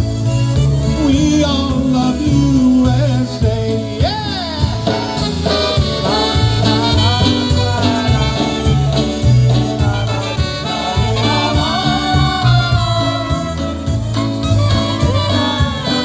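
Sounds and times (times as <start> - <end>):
horns: 0.0 - 16.0
polka band playing: 0.0 - 16.0
steady bass beat: 0.0 - 16.0.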